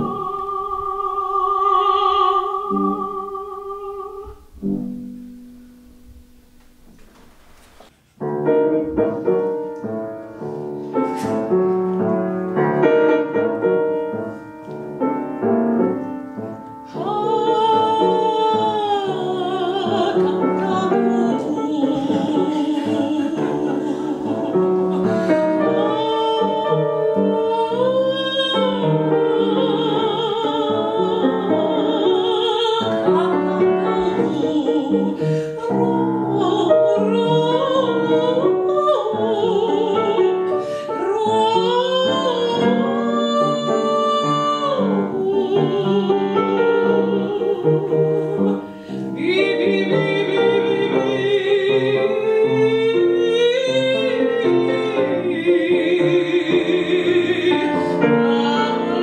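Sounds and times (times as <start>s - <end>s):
woman singing opera: 0.0s - 4.8s, 15.0s - 59.0s
piano: 0.0s - 59.0s.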